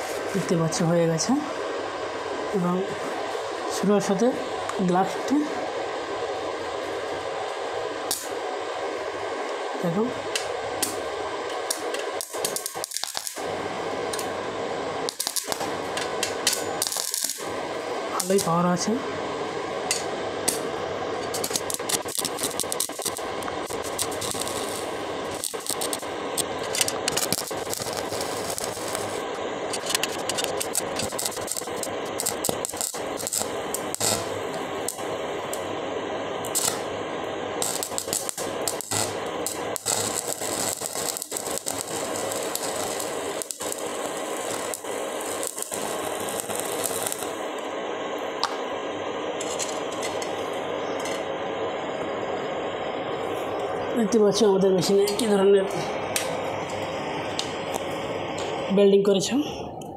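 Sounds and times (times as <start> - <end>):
welding arc crackling and popping: 0.0 - 59.4.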